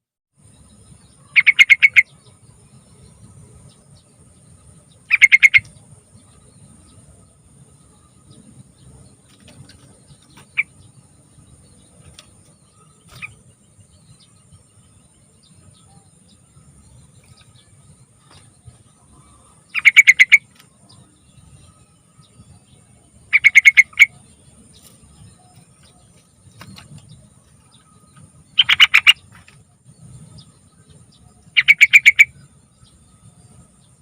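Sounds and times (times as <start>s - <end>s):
bulbul singing: 0.4s - 34.0s.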